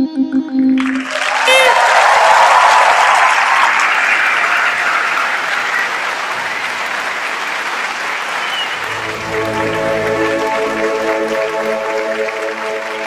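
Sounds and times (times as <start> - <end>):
large audience applauding: 0.8 - 13.0.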